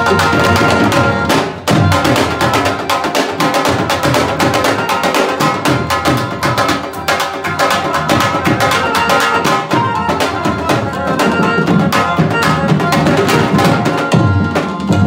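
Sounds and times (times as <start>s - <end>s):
fast hand drumming: 0.0s - 15.0s
harmonium held tones: 0.0s - 15.0s.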